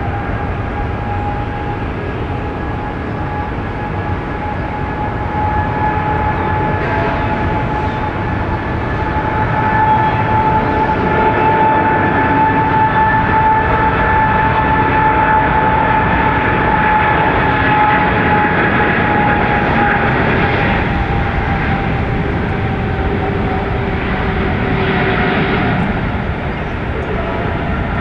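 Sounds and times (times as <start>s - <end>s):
jet engines roaring with fan whine: 0.0s - 28.0s.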